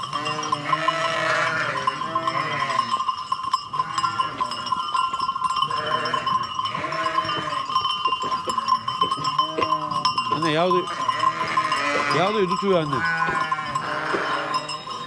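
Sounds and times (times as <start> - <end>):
sheep bleating: 0.0 - 3.0, 3.8 - 4.8, 5.7 - 7.7, 8.3 - 15.0
livestock bells ringing: 0.0 - 15.0.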